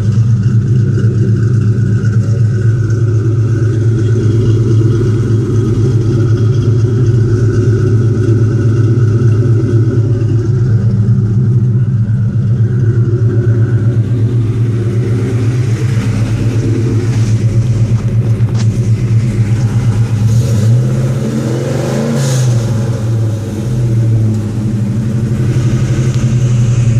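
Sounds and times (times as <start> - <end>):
car engine idling choppily: 0.0 - 26.9
engine revving: 0.0 - 26.9.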